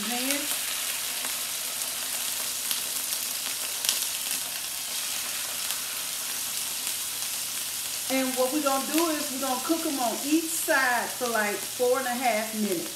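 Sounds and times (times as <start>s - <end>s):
fish sizzling in skillet: 0.0s - 12.9s
sharp crackles of frying: 0.0s - 12.9s.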